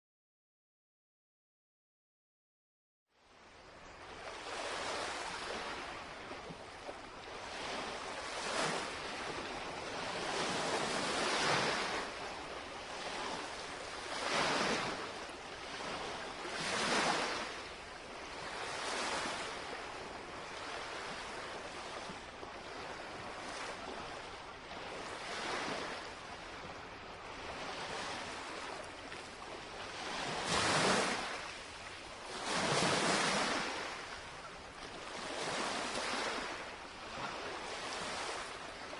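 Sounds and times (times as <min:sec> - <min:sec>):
waves lapping on shoreline: 0:03.2 - 0:38.9.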